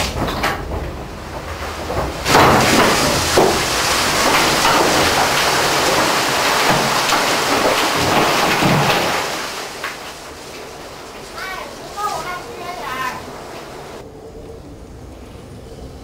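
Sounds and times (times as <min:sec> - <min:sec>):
coal pouring down chute: 0:00.0 - 0:14.0.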